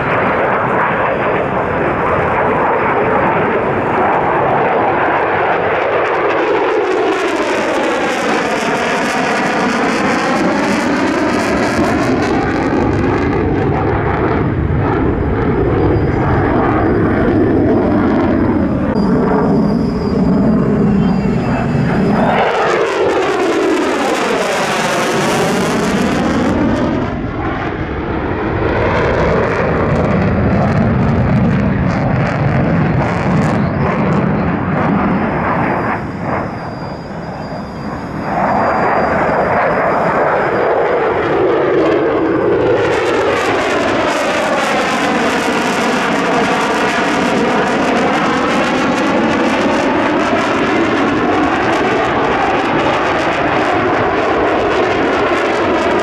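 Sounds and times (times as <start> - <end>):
jet engine roaring: 0.0 - 56.0.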